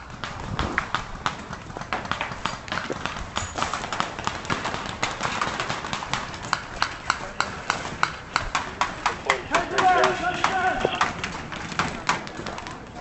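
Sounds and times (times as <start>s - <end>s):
running footsteps: 0.0s - 13.0s.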